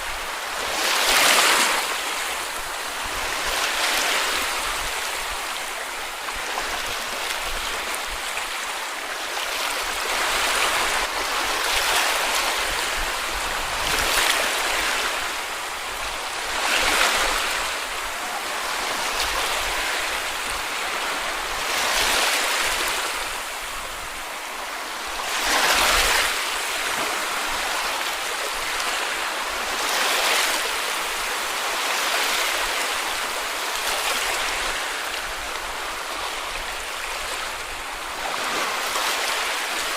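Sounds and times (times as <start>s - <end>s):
small waves washing on beach: 0.0s - 39.9s.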